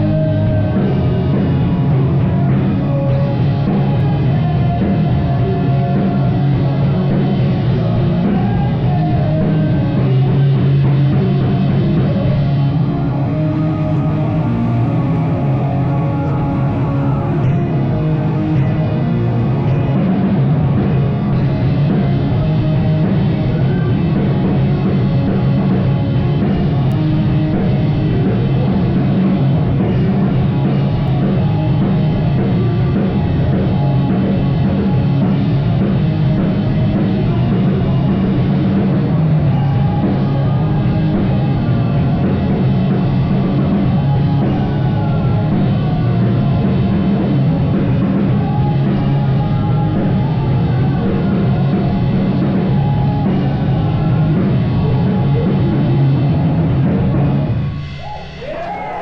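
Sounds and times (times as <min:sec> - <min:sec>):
drum kit: 0:00.0 - 0:59.0
loud distorted guitars: 0:00.0 - 0:59.0.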